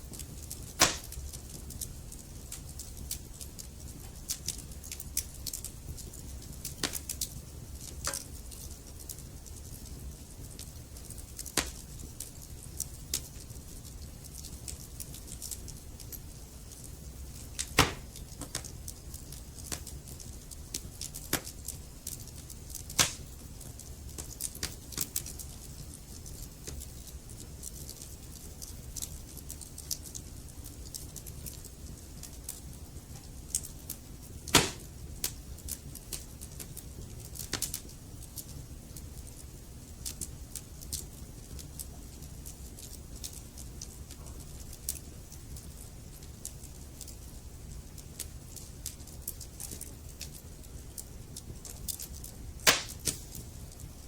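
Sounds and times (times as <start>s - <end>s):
logs crackling and popping: 0.0s - 54.0s
wood fire burning: 0.0s - 54.0s.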